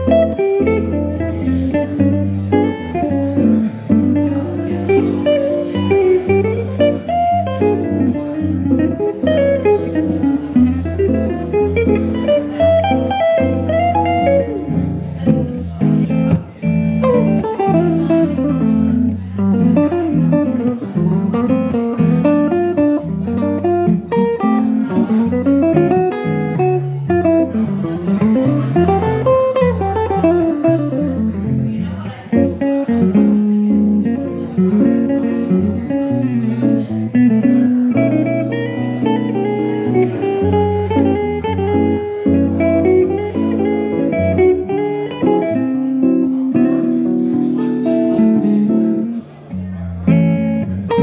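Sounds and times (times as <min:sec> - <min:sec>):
fingerstyle electric guitar: 0:00.0 - 0:51.0.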